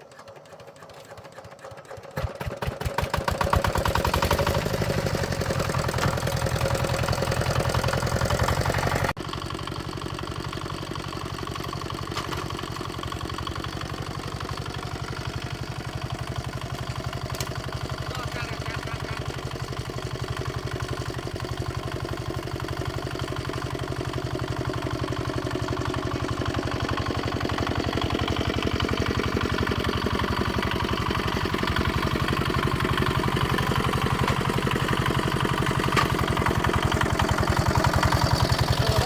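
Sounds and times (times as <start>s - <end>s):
tractor engine chugging: 0.0s - 39.0s.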